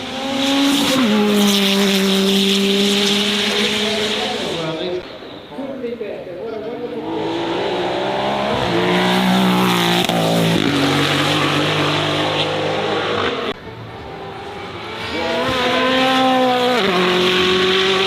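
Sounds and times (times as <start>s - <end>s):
racing car engine revving: 0.0s - 4.8s, 6.9s - 13.6s, 14.3s - 18.0s.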